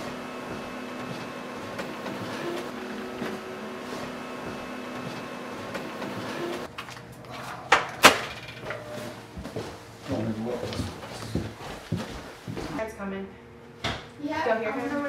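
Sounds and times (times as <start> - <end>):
copier humming: 0.0 - 12.9.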